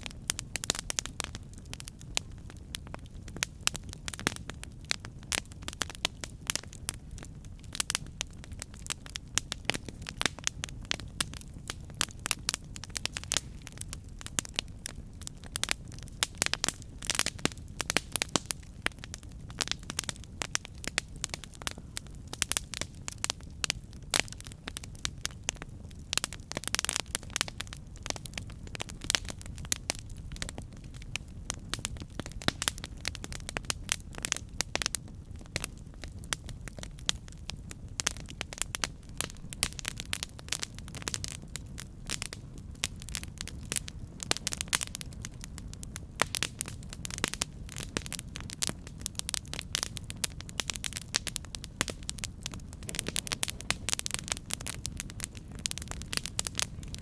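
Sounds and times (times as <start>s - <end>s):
campfire wood crackling and popping: 0.0s - 57.0s
low rumble of flames: 0.0s - 57.0s.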